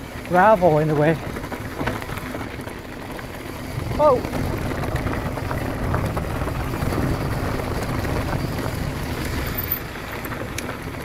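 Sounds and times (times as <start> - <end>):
bike tyres rumbling over gravel: 0.0 - 11.0
wind buffeting microphone: 1.2 - 11.0.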